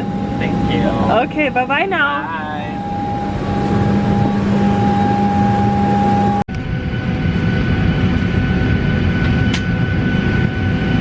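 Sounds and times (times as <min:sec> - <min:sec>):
airliner cabin noise: 0:00.0 - 0:11.0.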